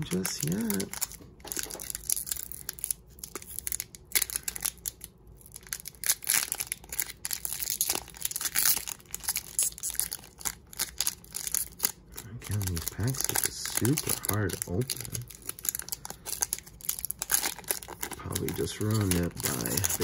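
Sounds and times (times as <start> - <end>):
foil wrapper crinkling and tearing: 0.0 - 20.0.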